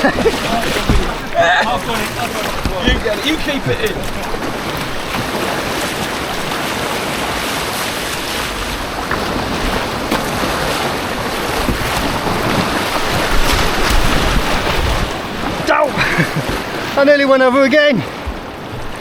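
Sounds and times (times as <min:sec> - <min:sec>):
wind buffeting microphone: 0:00.0 - 0:17.3
white-water rapids rushing: 0:00.0 - 0:19.0.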